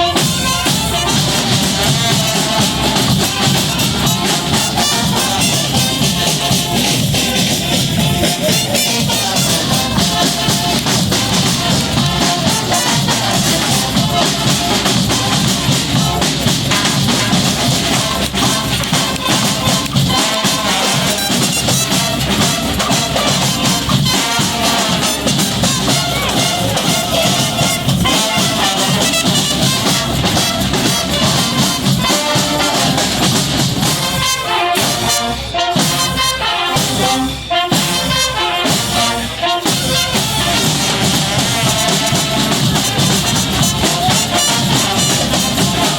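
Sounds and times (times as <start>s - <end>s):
bass drum and snare beat: 0.0s - 45.9s
brass band playing: 0.0s - 45.9s.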